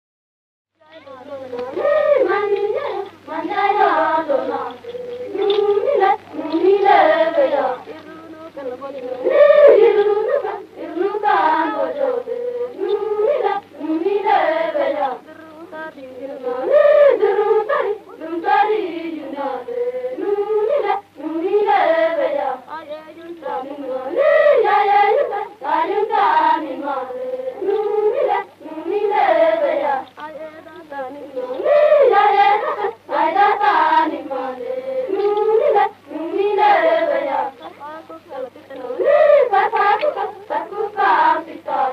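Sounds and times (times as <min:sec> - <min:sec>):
faint low hum: 0:00.8 - 0:41.9
unaccompanied folk singing: 0:00.8 - 0:41.9.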